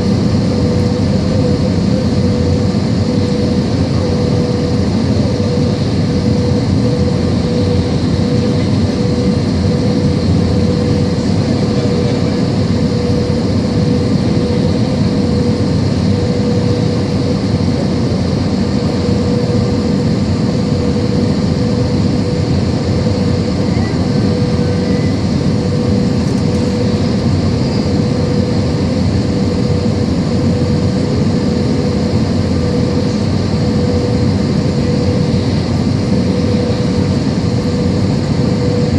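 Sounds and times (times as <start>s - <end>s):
jet aircraft drone: 0.0s - 38.9s.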